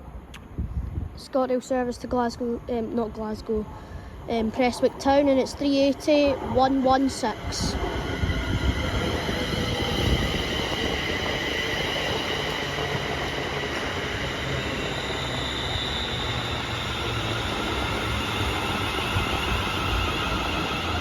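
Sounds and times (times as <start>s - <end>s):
electric train rumbling: 1.7s - 21.0s
high-pitched train tones: 3.0s - 21.0s.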